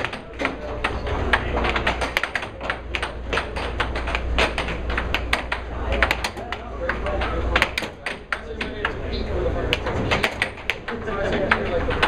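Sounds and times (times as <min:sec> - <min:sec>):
air hockey puck clacking: 0:00.0 - 0:12.0.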